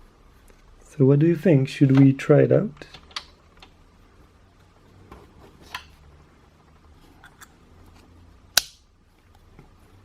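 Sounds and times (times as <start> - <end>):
room hum: 0.0 - 10.0.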